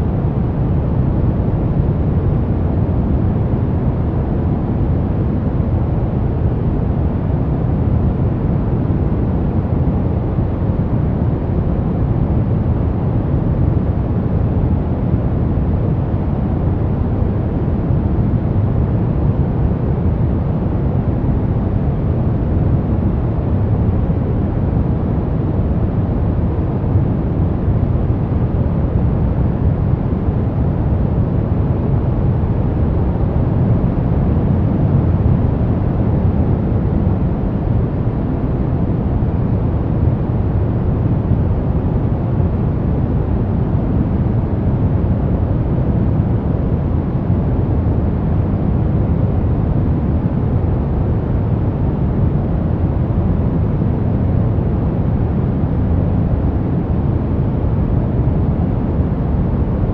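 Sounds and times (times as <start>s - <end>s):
brown noise: 0.0s - 59.9s.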